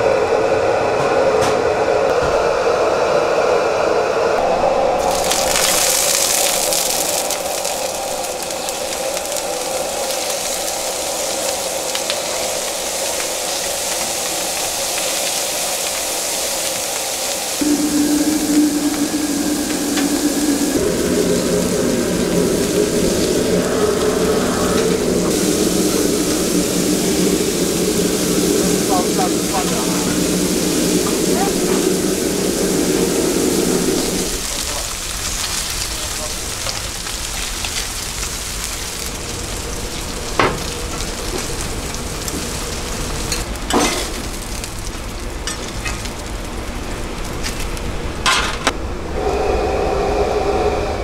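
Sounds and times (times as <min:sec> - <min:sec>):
steady mechanical roar: 0:00.0 - 0:05.1, 0:07.9 - 0:43.8, 0:45.2 - 0:51.0
fish sizzling in hot oil: 0:05.0 - 0:47.8.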